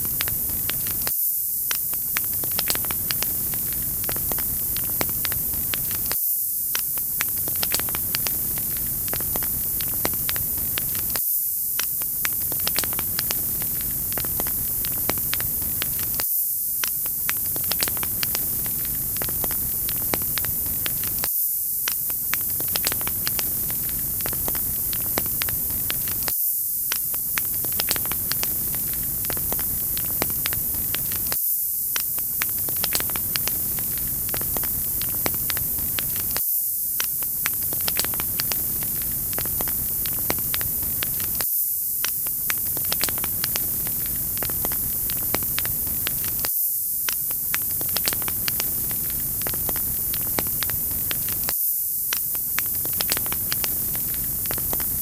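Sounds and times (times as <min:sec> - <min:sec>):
wood fire crackling: 0:00.0 - 0:01.1, 0:01.7 - 0:11.2, 0:11.8 - 0:16.2, 0:16.8 - 0:21.3, 0:21.9 - 0:26.3, 0:27.0 - 0:36.4, 0:37.0 - 0:41.4, 0:42.0 - 0:51.5, 0:52.1 - 0:55.0.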